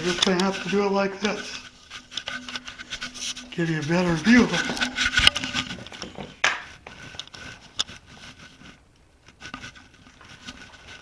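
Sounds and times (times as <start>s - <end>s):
faint rubbing: 0.0s - 11.0s.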